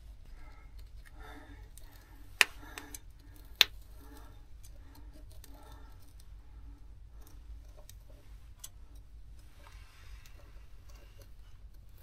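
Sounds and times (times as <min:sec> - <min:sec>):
faint handling sounds: 0:00.0 - 0:12.0.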